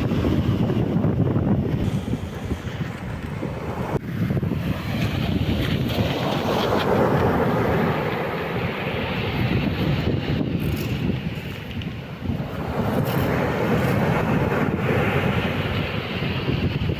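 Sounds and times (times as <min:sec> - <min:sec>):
sea surf washing on shore: 0:00.0 - 0:16.9
wind buffeting microphone: 0:00.0 - 0:16.9.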